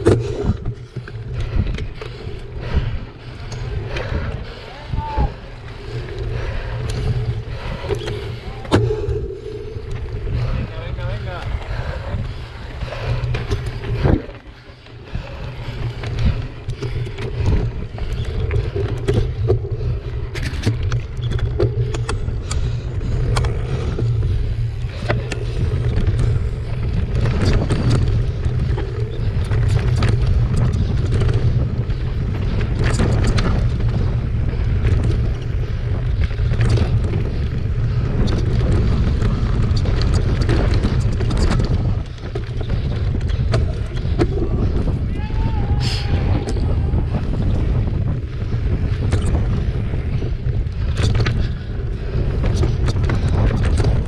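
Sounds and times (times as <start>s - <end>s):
bike rattling over stones: 0.0s - 54.0s
wind buffeting microphone: 0.0s - 54.0s.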